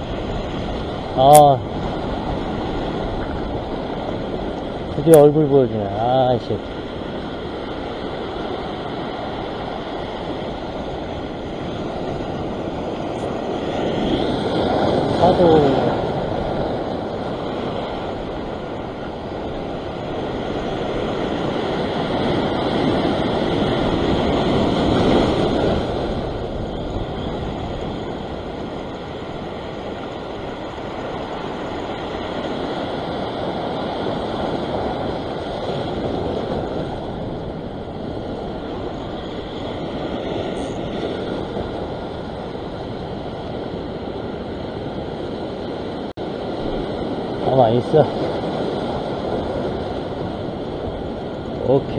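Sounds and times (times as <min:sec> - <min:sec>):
surf washing over rock: 0:00.0 - 0:51.9
wind on microphone: 0:00.0 - 0:51.9.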